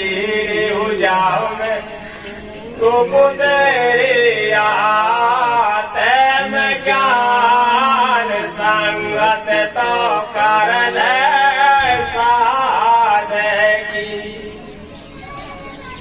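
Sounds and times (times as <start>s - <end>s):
men singing together: 0.0s - 14.8s.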